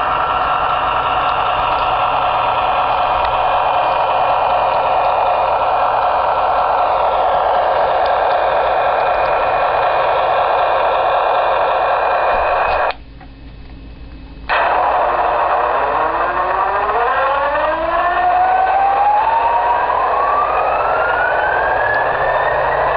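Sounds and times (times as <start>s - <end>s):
diesel locomotive sound: 0.0s - 13.0s, 14.4s - 22.9s
rising whine: 0.0s - 13.0s, 14.4s - 22.9s.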